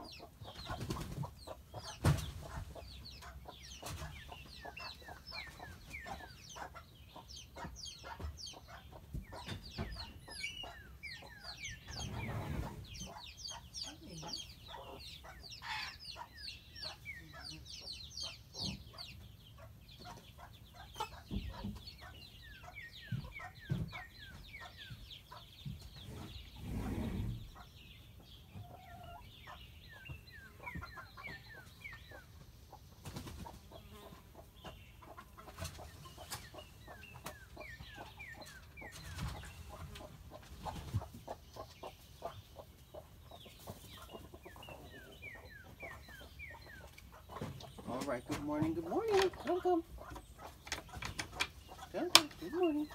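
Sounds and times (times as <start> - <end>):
chicks peeping: 0.0 - 52.9.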